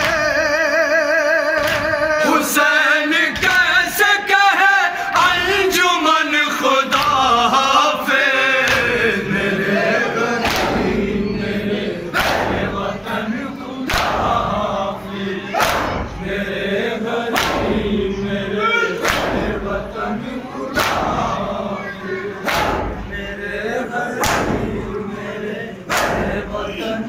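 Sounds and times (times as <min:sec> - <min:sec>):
men chanting in unison: 0:00.0 - 0:27.0.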